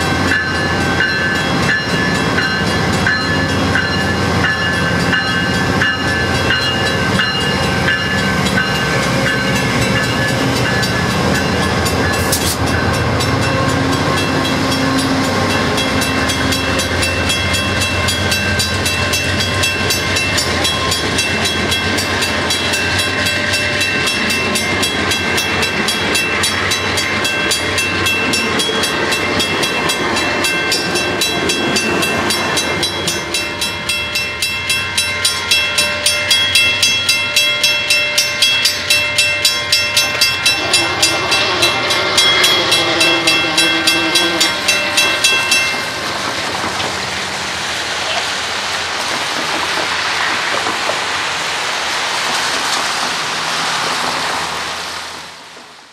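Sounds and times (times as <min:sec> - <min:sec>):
passenger train rumbling past: 0:00.0 - 0:55.9
train wheels clacking over rail joints: 0:00.3 - 0:34.6, 0:35.6 - 0:54.6.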